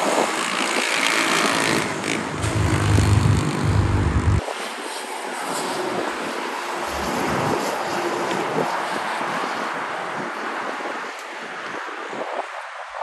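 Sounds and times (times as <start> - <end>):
truck tyre and road noise: 0.0 - 13.0.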